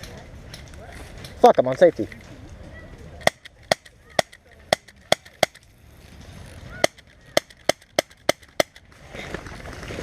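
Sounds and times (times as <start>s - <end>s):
noisy rustle: 0.0s - 7.7s, 8.8s - 10.0s.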